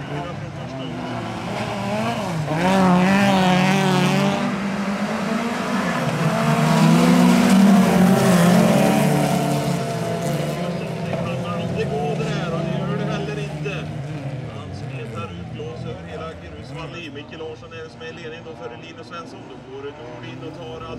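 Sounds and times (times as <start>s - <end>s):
race car engines revving: 0.0s - 20.9s.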